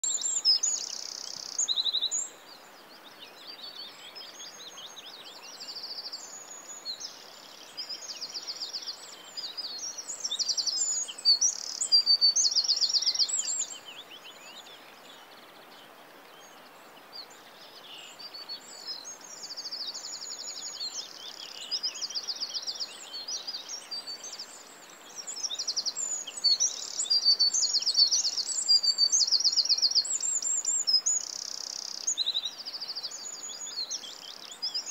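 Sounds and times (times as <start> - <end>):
faint steady hiss: 0.0 - 34.9
songbirds trilling and chirping: 0.0 - 34.9.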